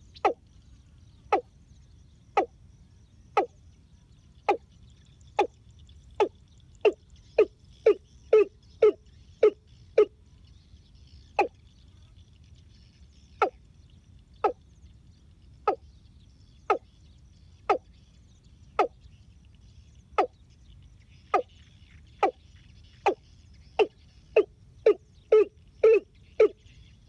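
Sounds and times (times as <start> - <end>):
faint high chirping: 0.0 - 27.0.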